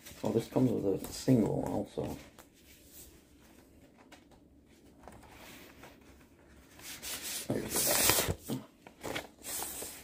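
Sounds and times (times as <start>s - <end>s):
paper and cardboard rustling: 0.0s - 10.0s.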